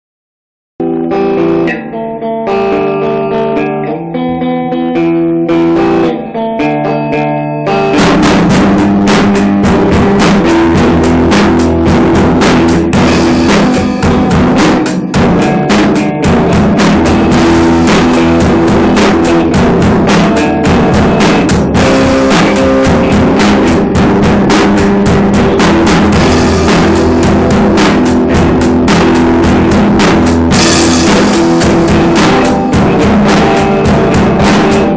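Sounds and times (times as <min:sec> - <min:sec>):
drum kit playing: 0:00.8 - 0:34.9
electric guitar playing: 0:00.8 - 0:34.9.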